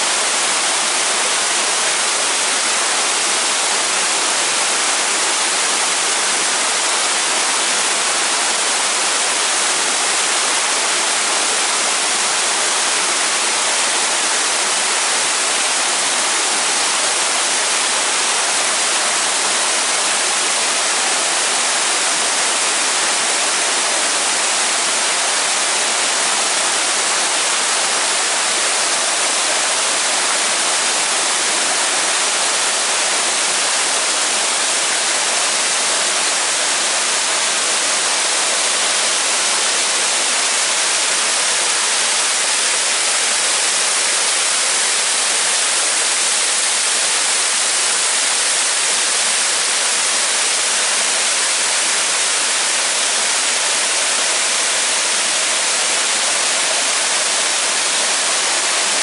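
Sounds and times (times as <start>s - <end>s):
waterfall splashing onto rocks: 0.0s - 59.0s.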